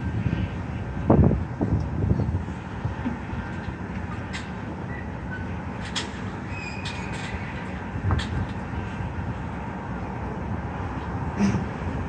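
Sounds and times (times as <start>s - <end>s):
construction machinery rumble: 0.0s - 12.0s
road traffic: 0.0s - 12.0s.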